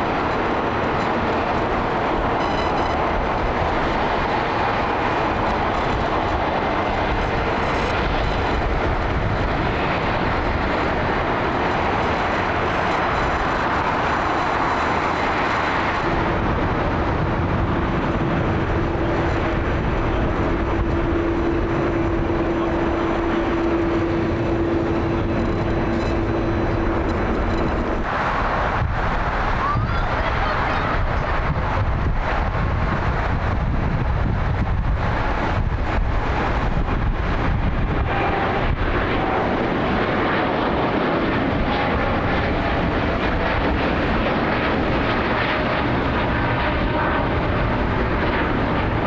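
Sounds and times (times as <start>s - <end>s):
jet engines roaring: 0.0s - 49.0s
steady hum: 0.0s - 49.0s.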